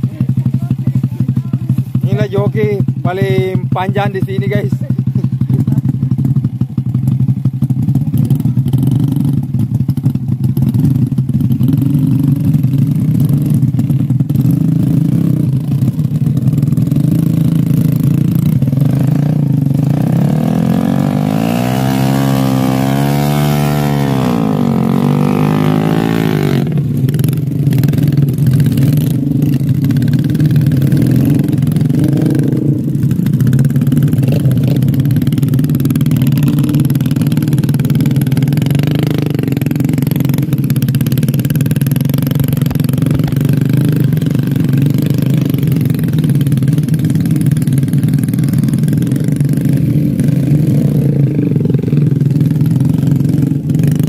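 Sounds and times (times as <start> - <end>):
motorcycle engine revving: 0.0 - 54.0
motorcycle engines running: 0.0 - 54.0.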